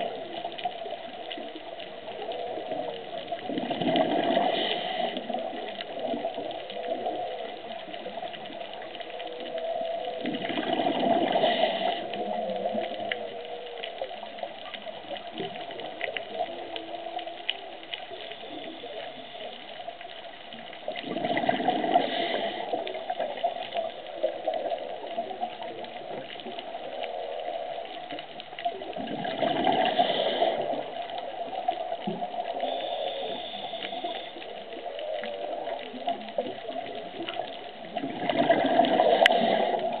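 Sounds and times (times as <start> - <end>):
underwater hiss: 0.0 - 13.8, 15.2 - 20.2, 21.1 - 40.0
scuba regulator bubbling: 0.0 - 40.0
whale song: 0.0 - 40.0.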